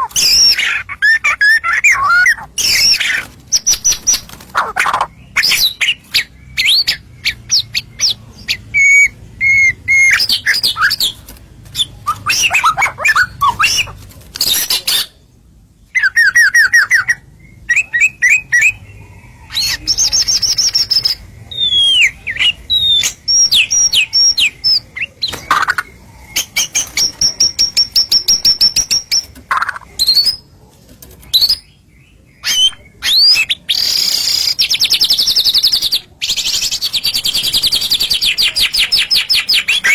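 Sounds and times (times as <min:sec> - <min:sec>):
bird singing varied whistles and trills: 0:00.0 - 0:04.3, 0:05.0 - 0:14.0, 0:15.9 - 0:18.9, 0:19.6 - 0:30.5, 0:32.4 - 0:39.9.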